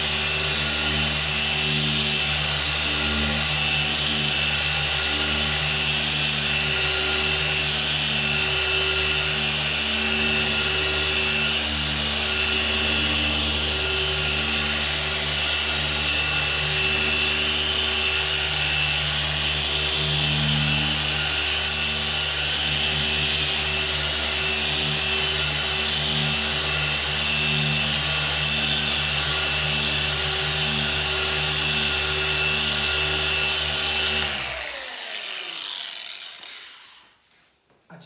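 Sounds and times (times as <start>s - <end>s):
polishing machine humming: 0.0s - 37.0s.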